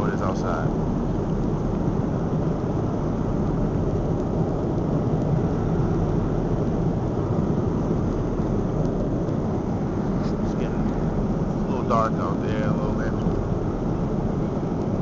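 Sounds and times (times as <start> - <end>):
jet engine cabin drone: 0.0 - 15.0.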